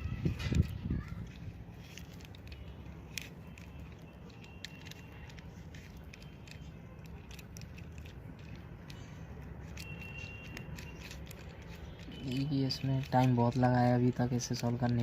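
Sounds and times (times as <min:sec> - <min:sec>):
plastic puzzle cube clicking: 0:00.3 - 0:15.0.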